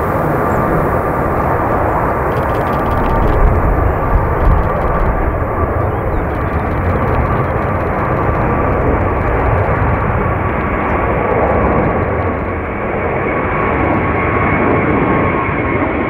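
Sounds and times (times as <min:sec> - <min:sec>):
faint jet engine whine: 0:00.0 - 0:16.0
jet engines rumbling at takeoff: 0:00.0 - 0:16.0.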